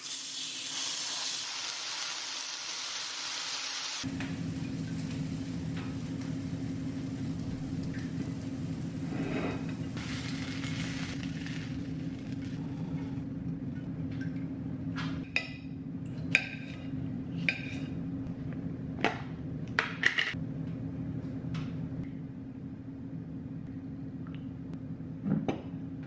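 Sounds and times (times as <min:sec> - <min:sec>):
steady low hum: 0:04.0 - 0:26.0.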